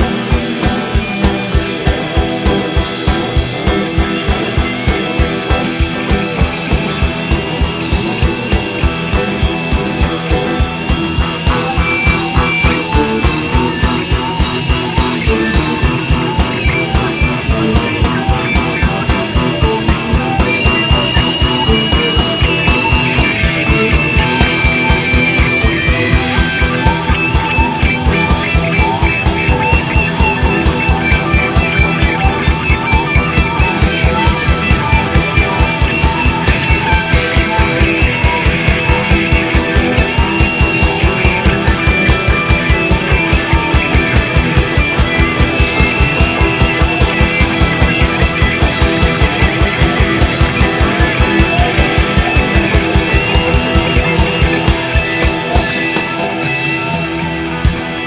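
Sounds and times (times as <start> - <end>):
drum kit: 0.0 - 58.0
guitar: 0.0 - 58.0
psychedelic rock music: 0.0 - 58.0.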